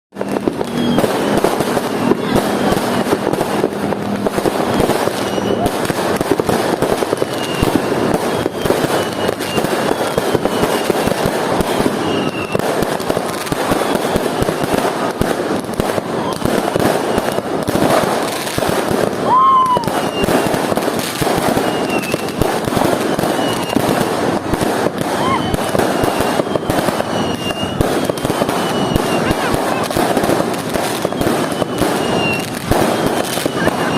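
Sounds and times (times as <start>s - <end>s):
firework whistles: 0.1s - 33.9s
fireworks and firecrackers banging: 0.1s - 33.9s.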